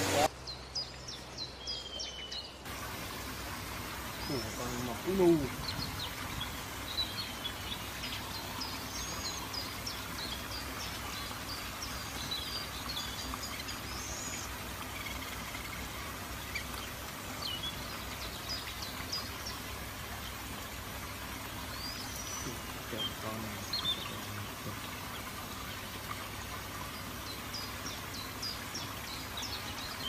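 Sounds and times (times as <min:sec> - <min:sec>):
small birds chirping: 0:00.0 - 0:30.0
steady background hiss: 0:00.0 - 0:30.0.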